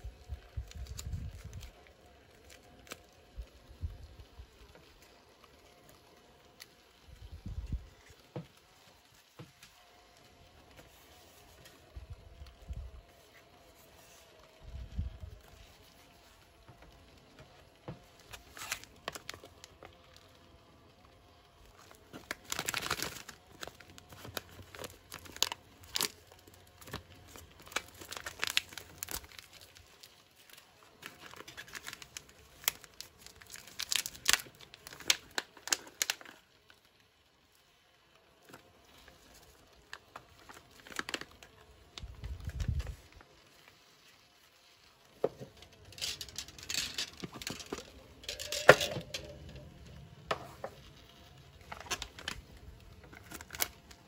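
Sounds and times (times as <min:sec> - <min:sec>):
plastic pouch crinkling and tearing: 0:00.0 - 0:54.0.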